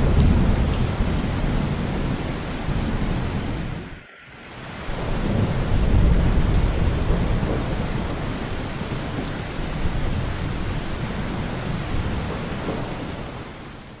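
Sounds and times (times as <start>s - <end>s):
low thunder rumble: 0.0s - 3.9s, 4.9s - 13.6s
steady rain: 0.0s - 14.0s.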